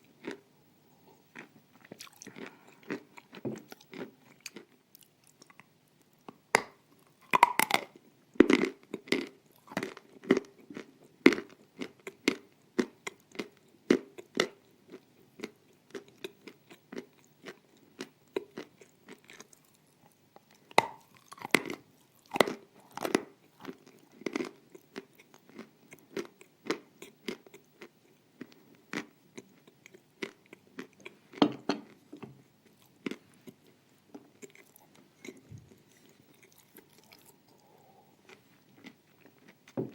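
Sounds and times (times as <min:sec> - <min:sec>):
steady chewing: 0:00.0 - 0:06.4, 0:07.0 - 0:39.8.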